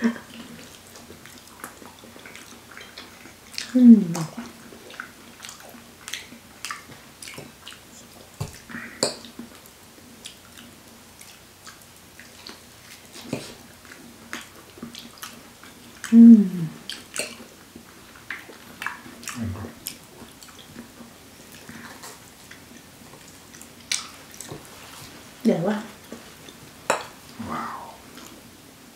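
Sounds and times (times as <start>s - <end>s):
wet chewing: 0.1s - 25.3s.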